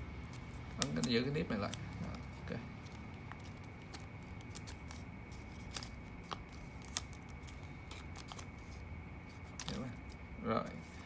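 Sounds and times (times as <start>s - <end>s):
paper money crackling: 0.2s - 11.0s.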